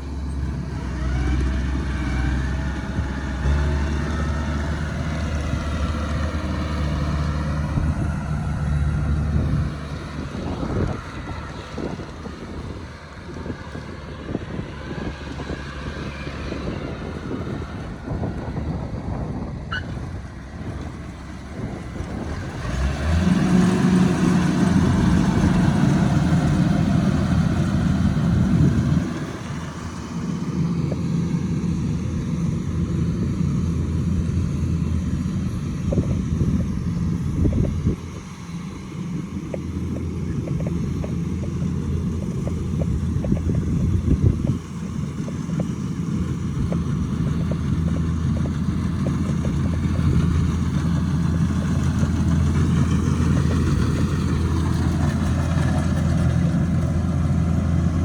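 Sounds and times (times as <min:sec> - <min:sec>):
harvesting machine engine running: 0:00.0 - 0:58.0.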